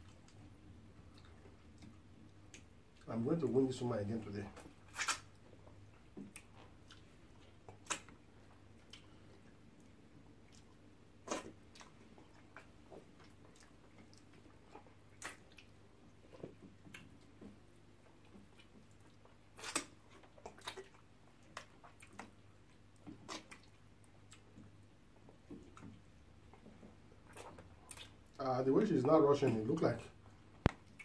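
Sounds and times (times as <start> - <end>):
chewing clicks and lip smacks: 0.0 - 3.1, 4.6 - 28.4, 30.2 - 31.0
faint low hum: 0.0 - 31.0.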